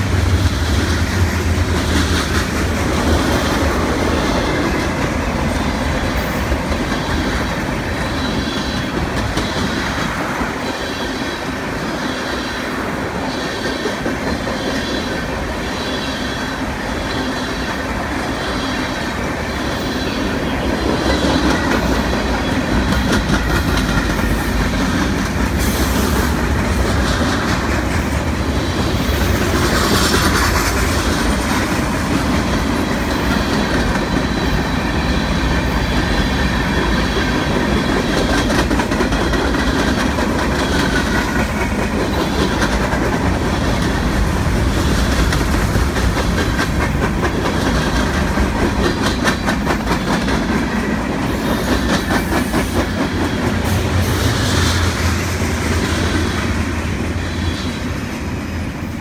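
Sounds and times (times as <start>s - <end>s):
clickety-clack over rail joints: 0.0s - 58.4s
train wheels rumbling on rail: 0.0s - 59.0s.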